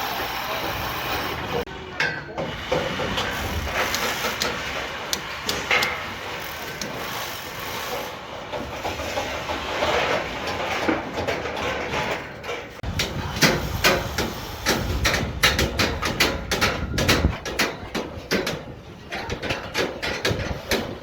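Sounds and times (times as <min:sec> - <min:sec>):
construction machinery running: 0:00.0 - 0:21.0
sharp knocks and clanks: 0:01.5 - 0:21.0.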